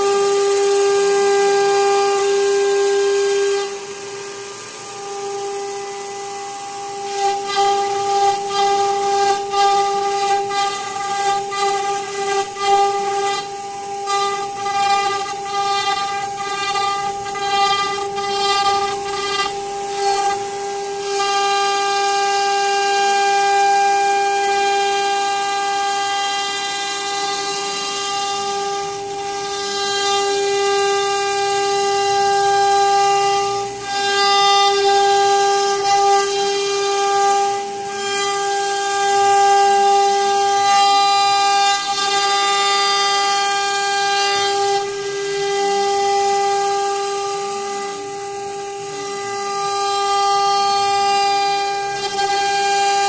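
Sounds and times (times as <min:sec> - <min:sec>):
bit cutting wood hiss: 0:00.0 - 0:53.0
router spindle whining: 0:00.0 - 0:53.0.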